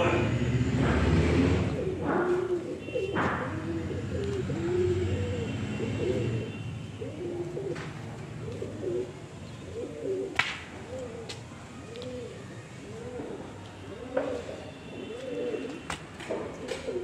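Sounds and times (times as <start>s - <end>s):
pigeons cooing: 1.6s - 17.0s.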